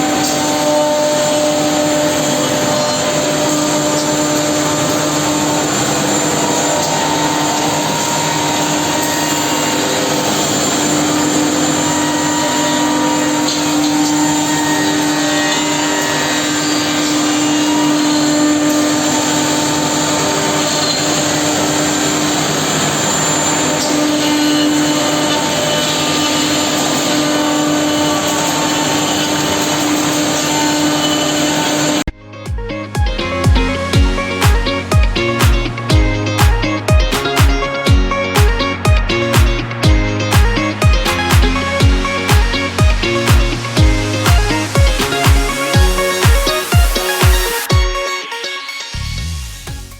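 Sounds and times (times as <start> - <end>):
machine spindle motors whining: 0.0 - 32.0, 33.6 - 47.9
machining noise: 0.0 - 32.0, 32.6 - 49.9.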